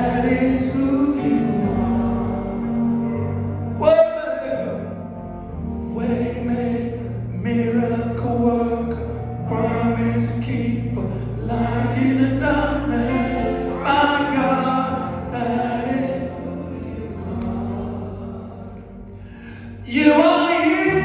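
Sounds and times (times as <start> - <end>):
voices singing gospel music: 0.0 - 4.8, 5.6 - 21.0
sustained instrumental accompaniment: 0.0 - 21.0.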